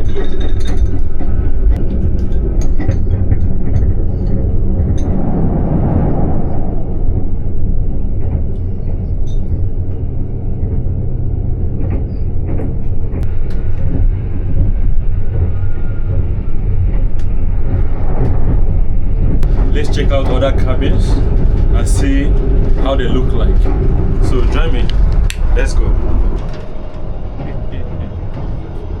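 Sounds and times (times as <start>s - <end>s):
train rumbling inside carriage: 0.0s - 29.0s.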